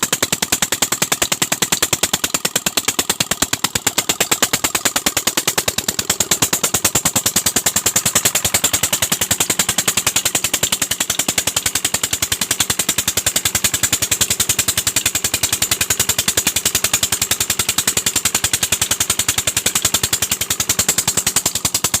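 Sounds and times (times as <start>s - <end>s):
diesel pump engine running: 0.0s - 22.0s.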